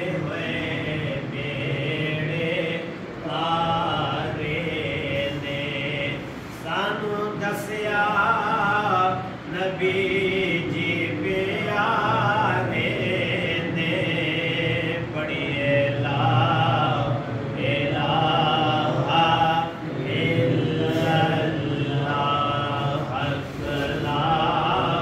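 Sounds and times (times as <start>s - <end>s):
man chanting: 0.0s - 25.0s.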